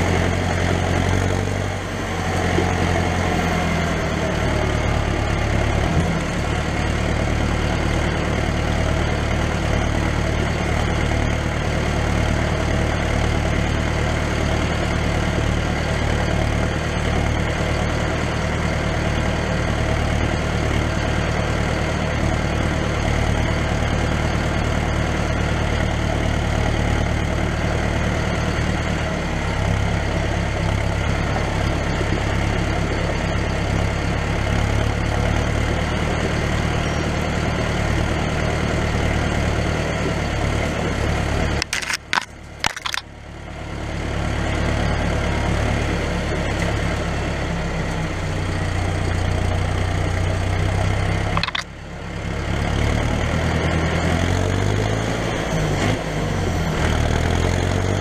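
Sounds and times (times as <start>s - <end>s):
vehicle engine and exhaust: 0.0s - 58.0s.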